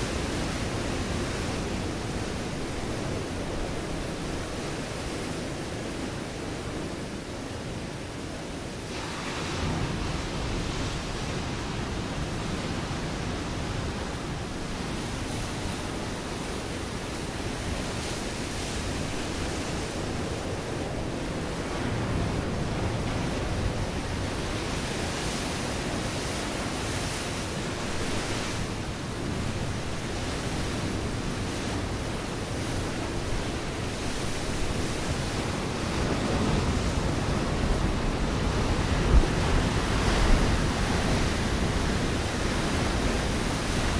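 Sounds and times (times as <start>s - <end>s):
waves breaking on rocky shore: 0.0s - 43.9s
wind on microphone: 0.0s - 43.9s.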